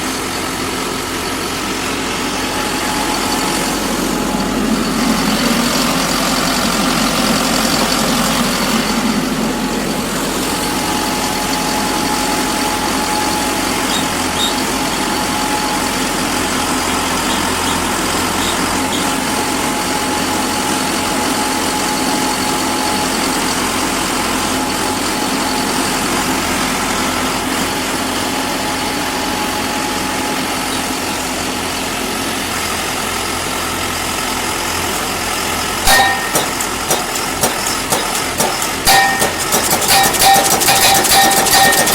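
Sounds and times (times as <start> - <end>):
thin steady whine: 0.0 - 32.8, 35.7 - 41.9
pile driver engine running: 0.0 - 41.9.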